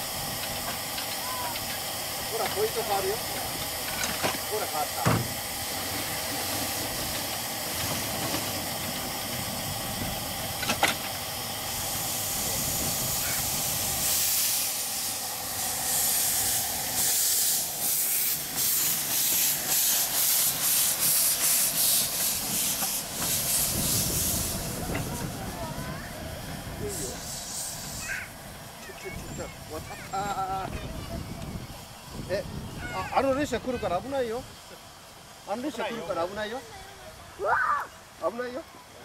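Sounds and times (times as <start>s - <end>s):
steam venting from cylinder cocks: 0.0s - 36.6s
steam locomotive chuffing: 0.0s - 37.2s
steam hissing: 0.0s - 39.0s.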